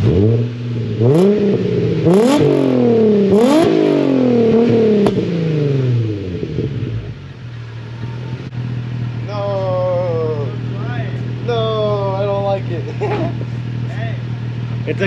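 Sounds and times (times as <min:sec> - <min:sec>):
car engine revving: 0:00.0 - 0:15.0
exhaust crack: 0:00.0 - 0:15.0.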